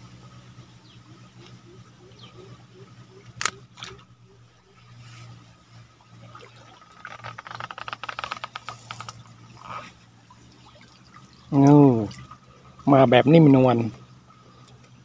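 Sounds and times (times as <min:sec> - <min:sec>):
steady low hum: 0:00.0 - 0:15.0
water splashing and pattering: 0:01.0 - 0:15.0.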